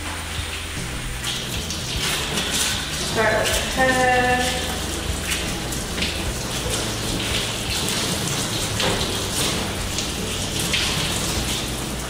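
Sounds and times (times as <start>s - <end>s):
hose water spattering: 0.0s - 12.0s.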